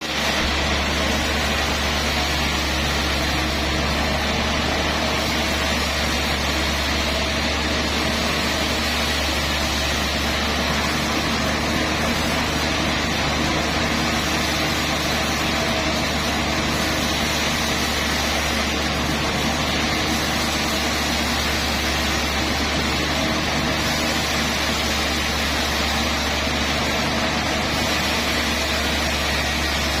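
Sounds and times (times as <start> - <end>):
sawmill machinery humming: 0.0 - 30.0.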